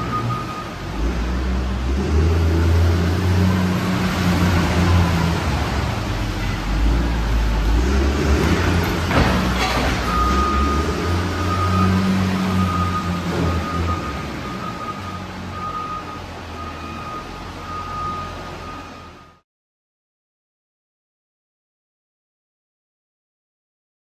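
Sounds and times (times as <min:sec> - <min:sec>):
loader diesel engine rumbling: 0:00.0 - 0:19.4.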